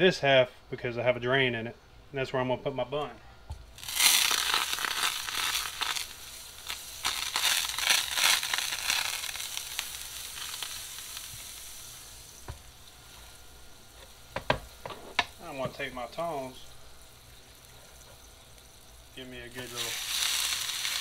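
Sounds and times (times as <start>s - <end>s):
butter sizzling and popping: 3.5s - 21.0s.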